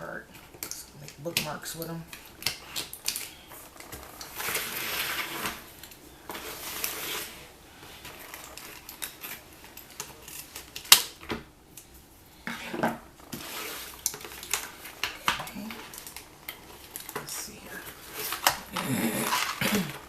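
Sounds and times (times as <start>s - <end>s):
packaging rustling: 0.3s - 12.1s, 12.7s - 20.0s.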